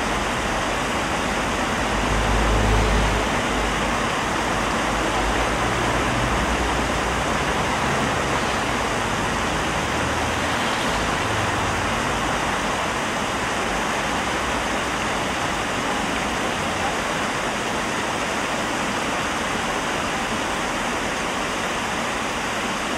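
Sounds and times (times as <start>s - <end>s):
fountain water splashing: 0.0s - 22.9s.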